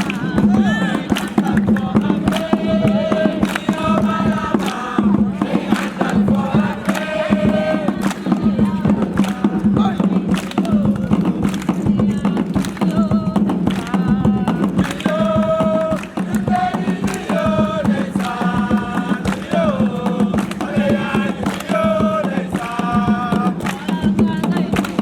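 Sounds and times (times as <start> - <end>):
quick percussive strikes: 0.0 - 25.0
voices singing a chant: 0.0 - 25.0.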